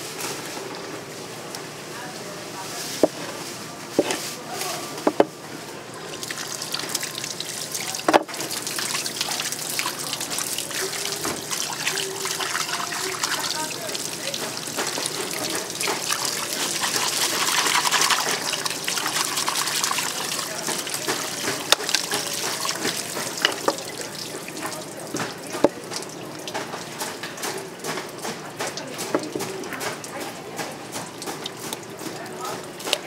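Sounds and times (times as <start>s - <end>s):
tap water running into sink: 5.0s - 5.3s, 6.0s - 33.0s.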